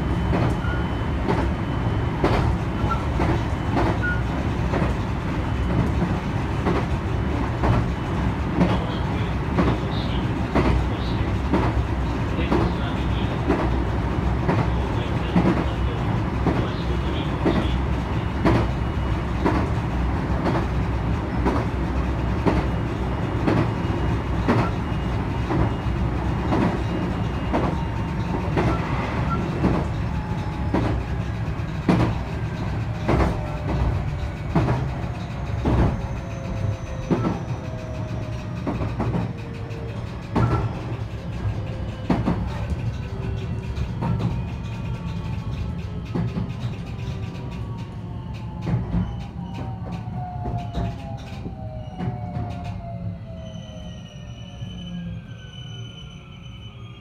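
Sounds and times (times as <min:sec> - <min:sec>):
low rumble of wheels on rail: 0:00.0 - 0:57.0
clacks over rail joints: 0:02.2 - 0:52.9.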